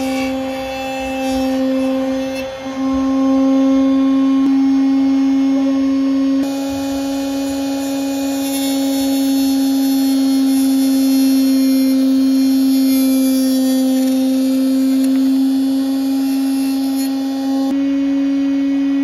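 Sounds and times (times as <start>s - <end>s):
cut-off wheel cutting shaft: 0.0s - 18.1s
saw motor humming: 0.0s - 19.0s.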